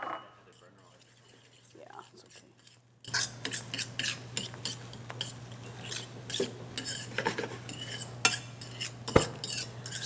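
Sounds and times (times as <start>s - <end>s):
fork scraping metal pan: 0.5s - 10.0s.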